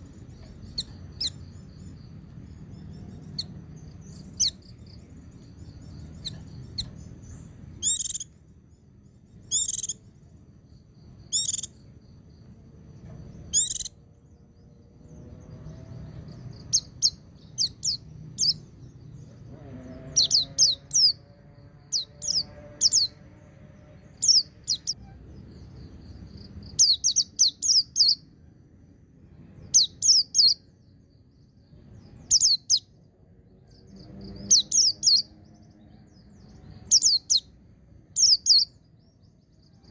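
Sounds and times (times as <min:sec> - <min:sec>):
faint low hum: 0:00.0 - 0:34.7
bird chirping: 0:00.0 - 0:39.9.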